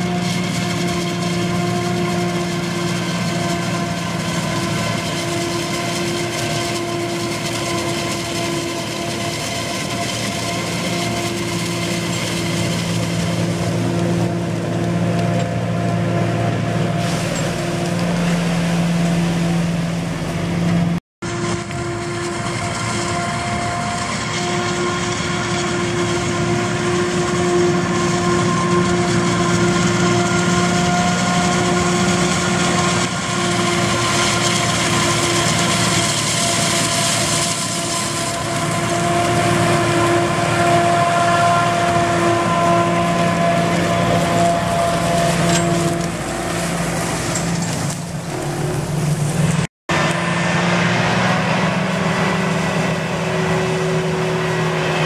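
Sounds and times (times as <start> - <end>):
forage harvester running: 0.0 - 55.0.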